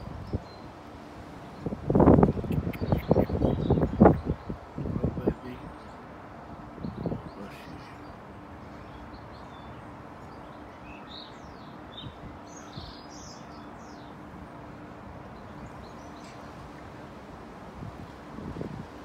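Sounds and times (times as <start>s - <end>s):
birds chirping: 0.0s - 17.2s
outdoor background hiss: 0.0s - 19.0s.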